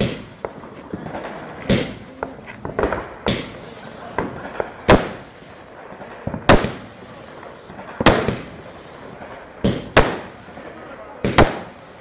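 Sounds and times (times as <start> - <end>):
fireworks bangs: 0.0 - 12.0
fireworks cracks and pops: 0.0 - 12.0.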